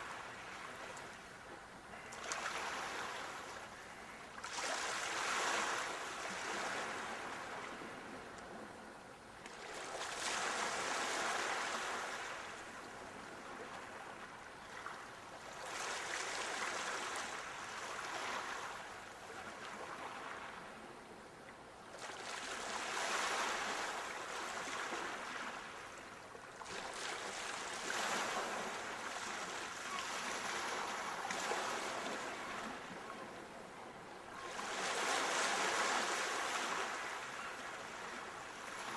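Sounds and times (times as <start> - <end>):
sea waves breaking on shore: 0.0 - 21.1, 21.8 - 38.9.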